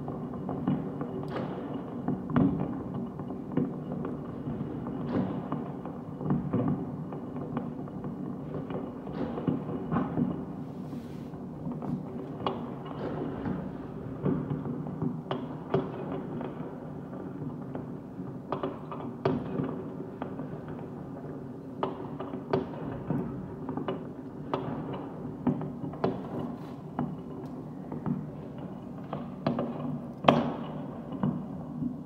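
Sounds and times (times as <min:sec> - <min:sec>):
fireworks and firecrackers banging: 0:00.0 - 0:32.0
low background noise: 0:00.0 - 0:32.0.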